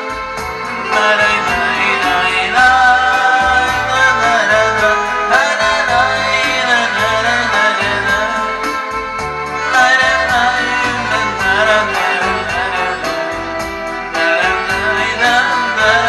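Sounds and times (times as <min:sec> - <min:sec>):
karaoke backing track: 0:00.0 - 0:16.0.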